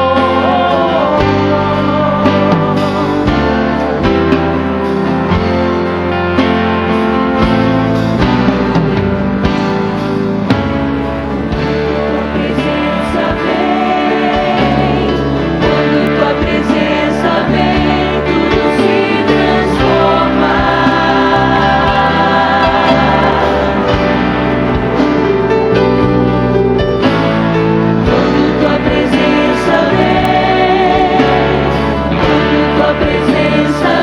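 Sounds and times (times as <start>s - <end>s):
voices singing in harmony: 0.0s - 7.7s, 9.5s - 34.0s
band accompaniment: 0.0s - 34.0s.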